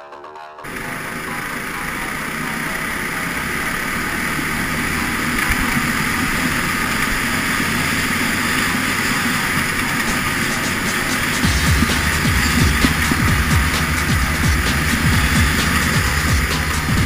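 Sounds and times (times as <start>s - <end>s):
kart engine at high revs: 0.6s - 17.0s.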